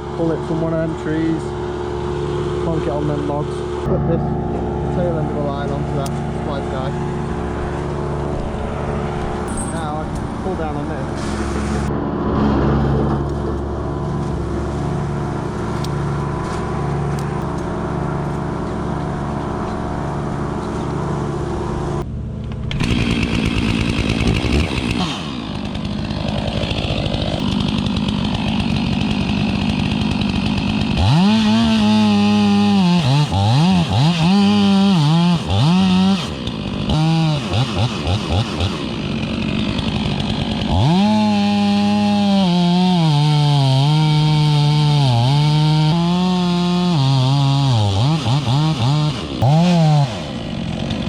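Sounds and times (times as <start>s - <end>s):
chainsaw engine running and revving: 0.0s - 22.0s, 22.7s - 51.0s.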